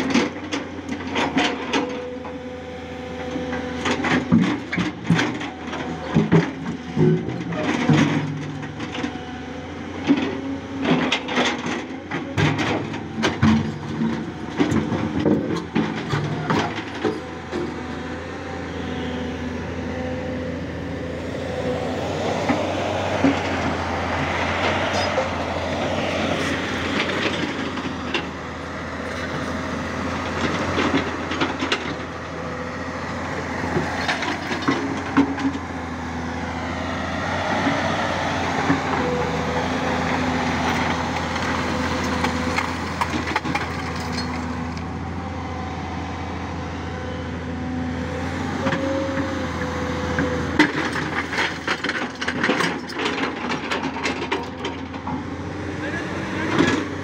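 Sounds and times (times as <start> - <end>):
excavator diesel engine humming: 0.0 - 57.0.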